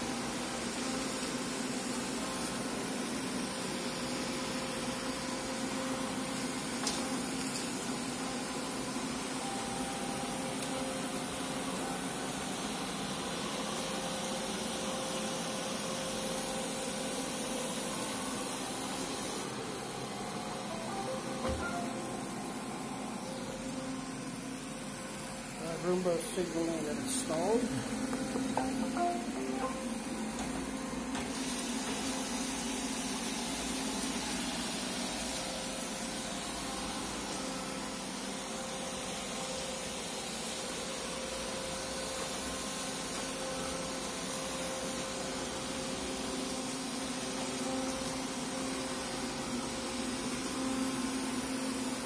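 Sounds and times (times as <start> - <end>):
robot vacuum running: 0.0 - 52.0.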